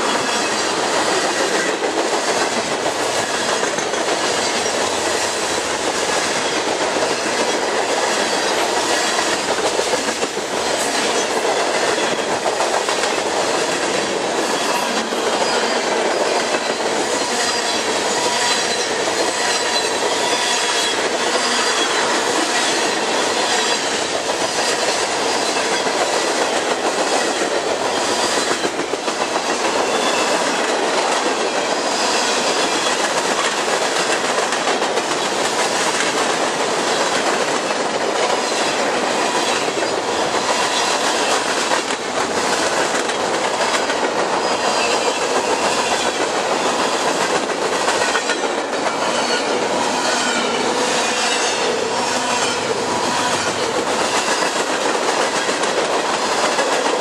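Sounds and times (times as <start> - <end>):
steel train wheels rushing on rails: 0.0 - 57.0.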